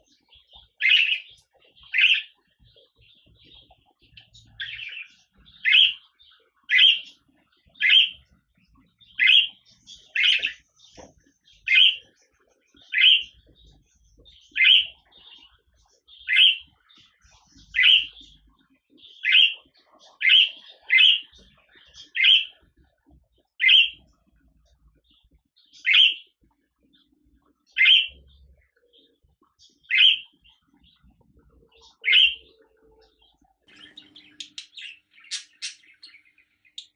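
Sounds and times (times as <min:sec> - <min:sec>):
budgerigar chirping: 0:00.0 - 0:23.0, 0:23.6 - 0:24.1, 0:25.1 - 0:27.1, 0:27.7 - 0:29.1, 0:29.8 - 0:31.0, 0:31.6 - 0:36.9.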